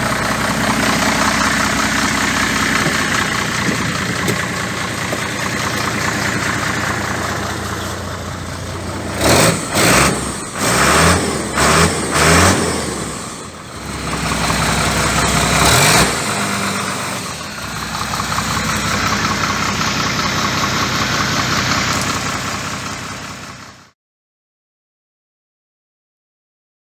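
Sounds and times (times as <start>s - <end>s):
diesel engine idling and revving: 0.0s - 24.0s.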